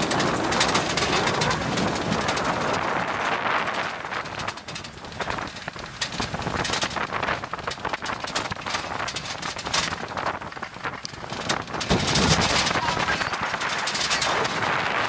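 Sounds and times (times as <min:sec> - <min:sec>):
vehicle rattling on dirt track: 0:00.0 - 0:15.0
wind buffeting microphone: 0:00.0 - 0:15.0.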